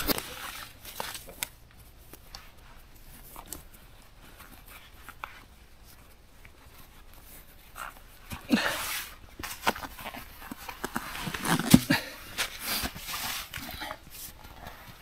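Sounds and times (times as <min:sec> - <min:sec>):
boot laces rustling: 0:00.0 - 0:15.0.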